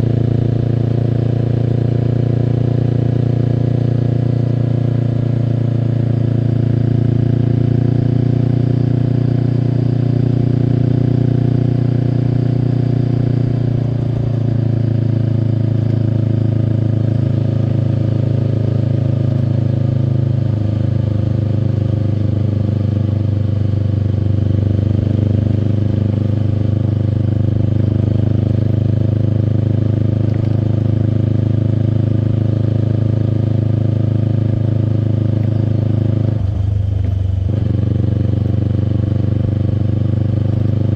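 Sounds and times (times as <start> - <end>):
motorcycle engine riding along: 0.0 - 40.9.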